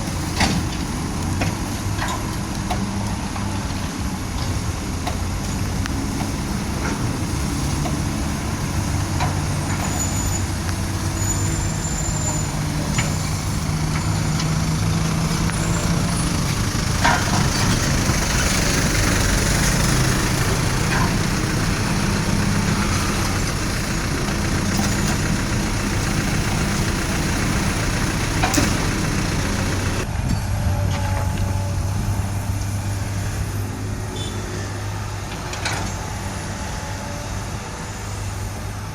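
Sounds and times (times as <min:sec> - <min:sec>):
truck diesel engines idling: 0:00.0 - 0:38.9.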